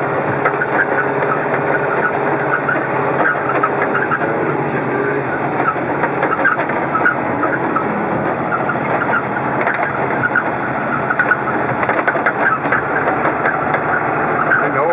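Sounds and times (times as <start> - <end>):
scattered clicks: 0.0 - 4.3, 5.3 - 14.8
road noise: 0.0 - 14.9
vehicle engine running: 0.0 - 14.9.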